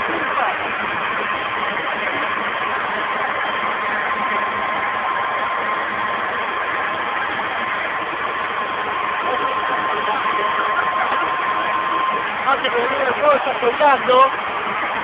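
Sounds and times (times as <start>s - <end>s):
electric blower rushing air: 0.0s - 15.0s.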